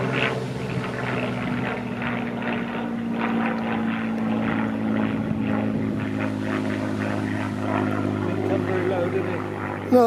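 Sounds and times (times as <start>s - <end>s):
propeller plane engine humming overhead: 0.0s - 10.0s.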